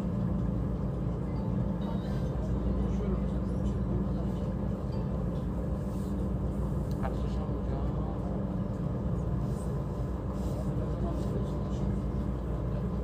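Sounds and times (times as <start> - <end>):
city traffic rumble: 0.0 - 13.0
faint indistinct voices: 0.0 - 13.0.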